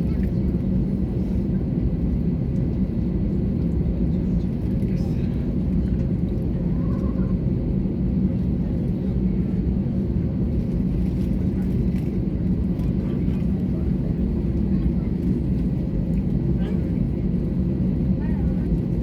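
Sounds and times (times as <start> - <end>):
airliner cabin low rumble: 0.0 - 19.0.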